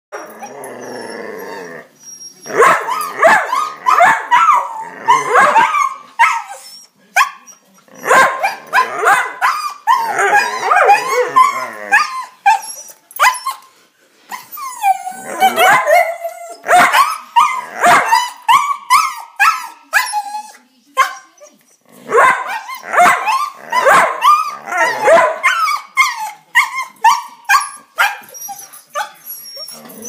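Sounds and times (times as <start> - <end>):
dog whining: 0.2 - 13.7, 14.3 - 21.7, 22.4 - 30.0
dog yipping and barking: 2.4 - 13.6, 14.8 - 21.4, 22.1 - 30.0.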